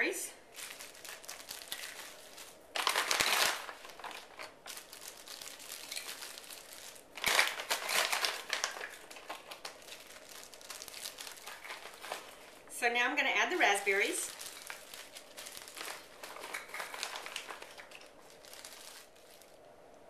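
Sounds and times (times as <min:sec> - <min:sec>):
plastic bags crinkling: 0:00.0 - 0:19.7.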